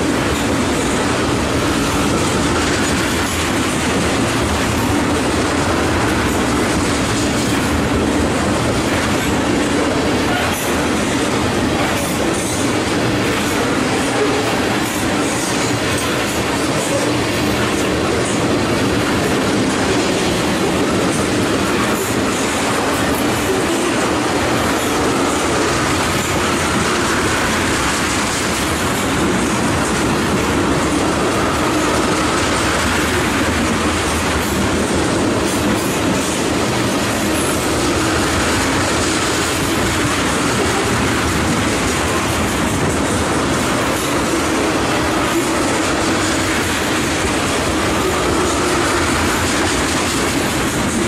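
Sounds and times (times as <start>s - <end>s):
freight train wheels on rails: 0.0s - 51.0s.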